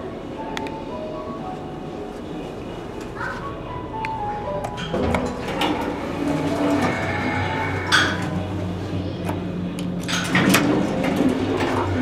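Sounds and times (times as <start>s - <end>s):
elevator doors working: 0.0s - 12.0s
steady low hum: 0.0s - 12.0s.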